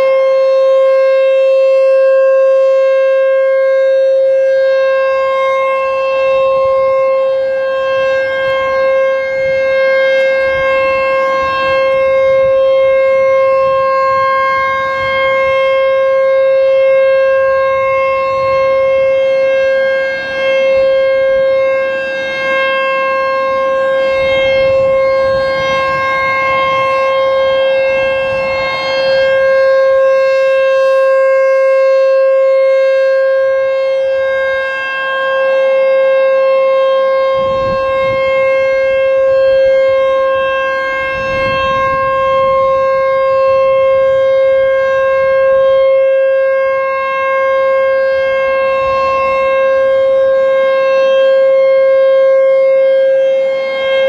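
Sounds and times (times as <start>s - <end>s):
rotating warning siren: 0.0s - 54.0s.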